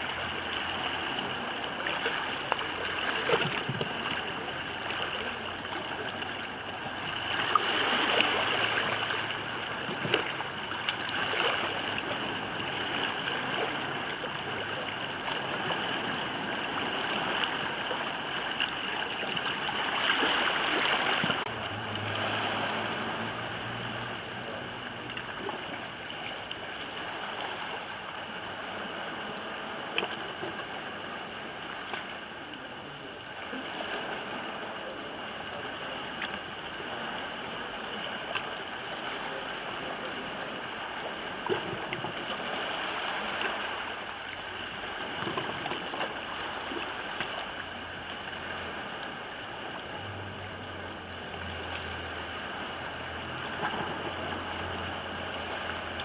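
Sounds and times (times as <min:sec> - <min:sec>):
sea water lapping on rocks: 0:00.0 - 0:56.0.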